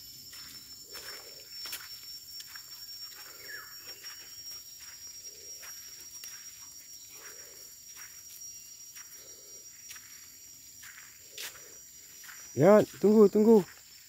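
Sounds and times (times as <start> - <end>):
footsteps on dirt and leaves: 0.0 - 14.0
high-pitched insect drone: 0.0 - 14.0.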